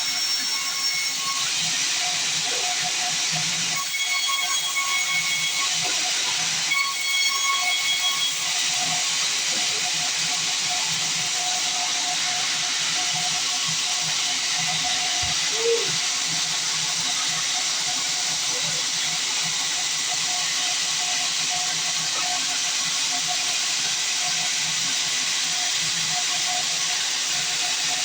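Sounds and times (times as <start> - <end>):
band saw cutting log: 0.0 - 25.8.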